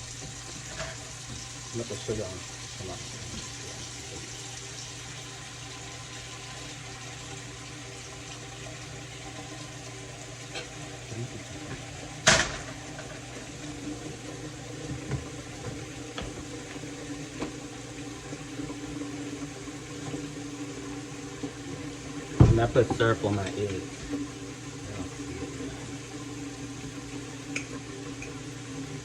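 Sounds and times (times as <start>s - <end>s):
kitchen hum: 0.0s - 29.0s.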